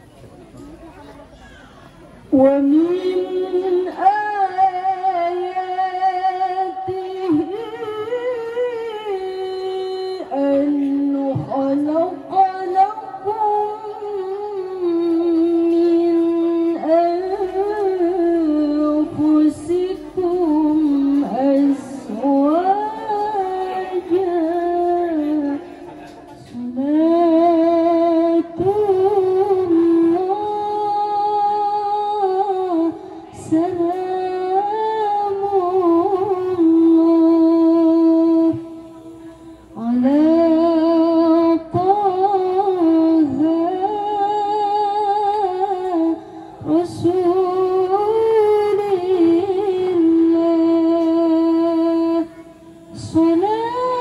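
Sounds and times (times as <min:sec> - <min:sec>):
woman reciting melodically: 0:00.7 - 0:54.0.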